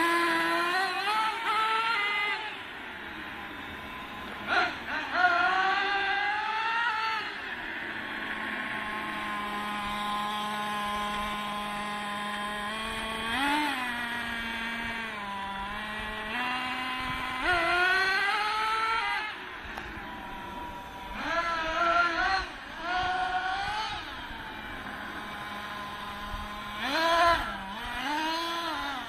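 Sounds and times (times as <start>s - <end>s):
nitro engine revving: 0.0s - 29.0s.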